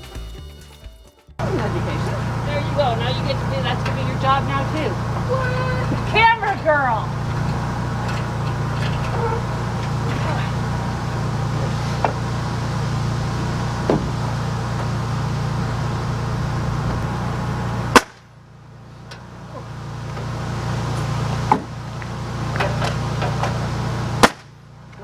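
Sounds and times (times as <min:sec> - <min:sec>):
sharp bangs: 0:00.0 - 0:19.0, 0:20.2 - 0:24.7
low machine drone: 0:01.3 - 0:25.0.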